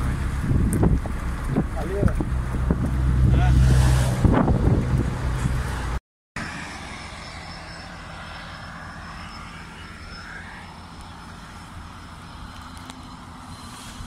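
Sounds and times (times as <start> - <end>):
low rumble of motor traffic: 0.0 - 14.0
vehicle passing by: 0.0 - 14.0.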